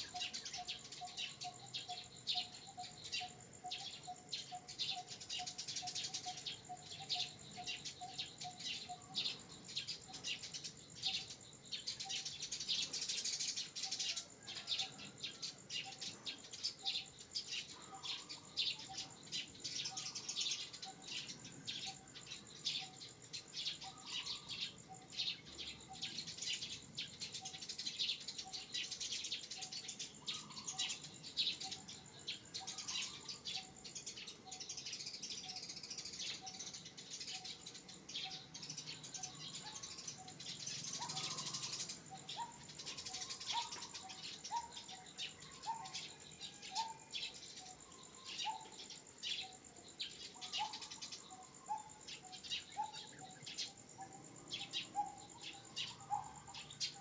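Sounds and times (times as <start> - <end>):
birds chirping: 0.0 - 57.0
insect high-pitched buzz: 0.0 - 57.0.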